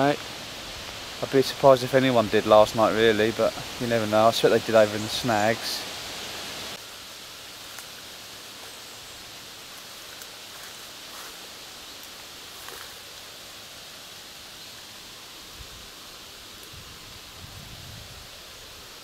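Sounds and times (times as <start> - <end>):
light breeze in trees: 0.0 - 19.0.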